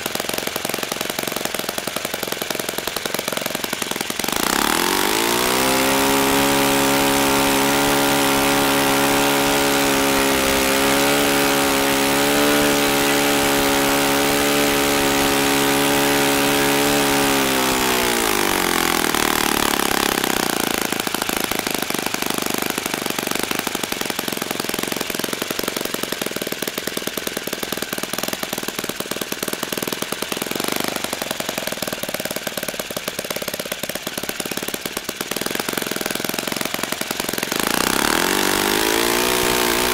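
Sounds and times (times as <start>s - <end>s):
model engine and propeller whir: 0.0s - 39.9s.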